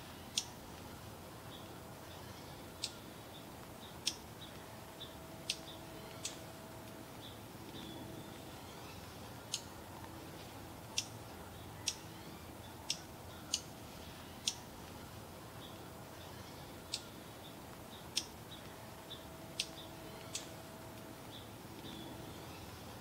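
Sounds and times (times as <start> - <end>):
raindrops ticking on leaves: 0.0 - 23.0.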